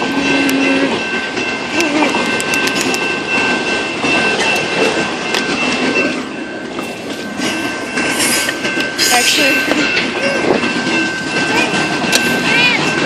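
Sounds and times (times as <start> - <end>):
freight train wheels clacking: 0.0 - 13.0.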